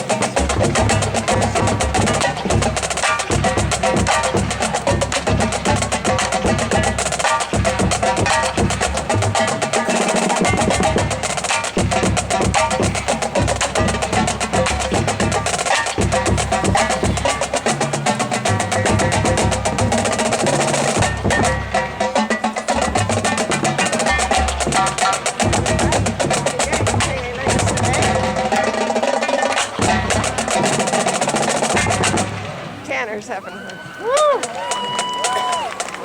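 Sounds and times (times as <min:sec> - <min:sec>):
pitched bass drums: 0:00.0 - 0:33.1
snare drum strokes: 0:00.0 - 0:33.2, 0:34.0 - 0:36.0.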